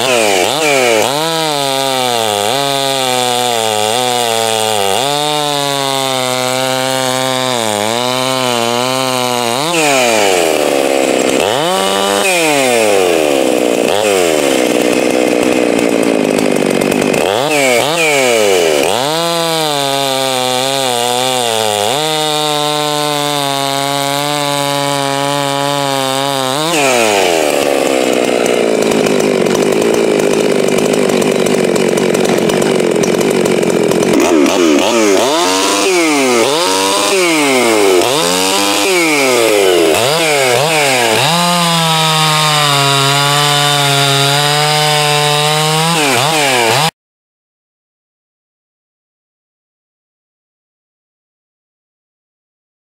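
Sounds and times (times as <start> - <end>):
chainsaw cutting log: 0.0 - 47.0
chainsaw revving: 0.0 - 47.0.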